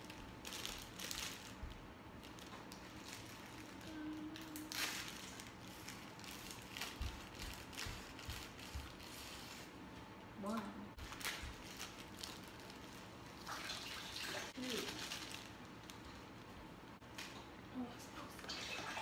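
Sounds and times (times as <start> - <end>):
plastic bag crinkling: 0.0 - 9.7, 11.0 - 16.6.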